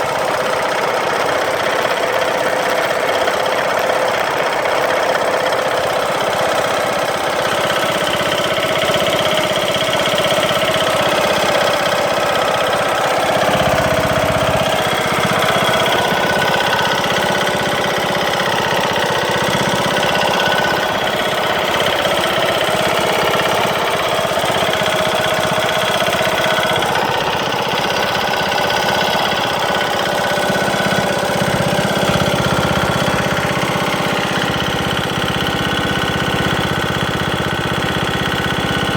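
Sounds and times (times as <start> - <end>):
engine knocking: 0.0 - 38.9
lawn tractor engine running: 0.0 - 38.9.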